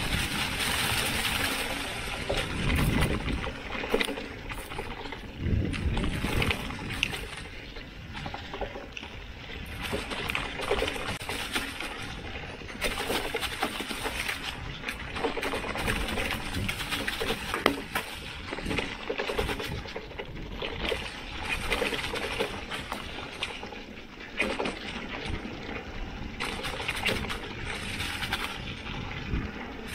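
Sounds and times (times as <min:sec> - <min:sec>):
bike clicks and knocks: 0:00.0 - 0:25.8
bike tyres rustling over leaves: 0:00.0 - 0:29.9.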